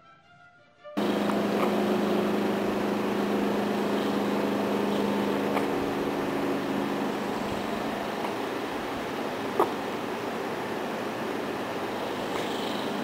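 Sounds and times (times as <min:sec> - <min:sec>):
machine drone with low hum: 0:01.0 - 0:13.0.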